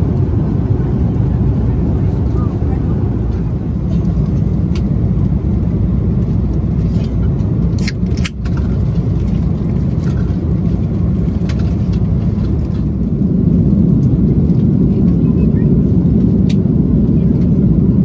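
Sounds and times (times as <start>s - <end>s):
airplane cabin engine rumble: 0.0s - 18.0s.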